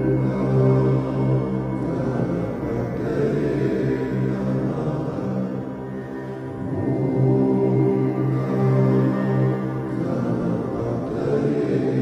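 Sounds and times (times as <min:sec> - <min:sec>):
dark droning music: 0:00.0 - 0:12.0.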